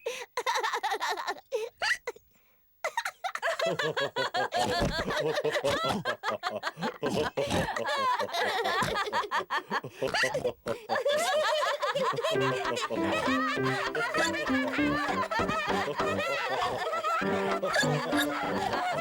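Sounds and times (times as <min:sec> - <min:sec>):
cartoon voices laughing: 0:02.9 - 0:19.0.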